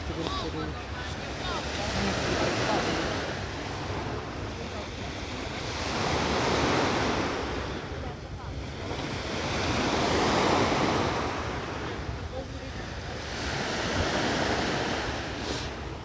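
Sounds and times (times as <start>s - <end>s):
sea waves breaking on shore: 0.0s - 16.0s.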